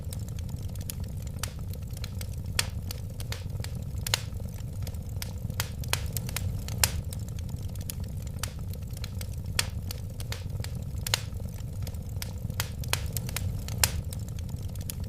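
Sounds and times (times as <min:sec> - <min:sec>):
flames rumbling: 0:00.0 - 0:15.0
wood fire crackling and popping: 0:00.0 - 0:15.0.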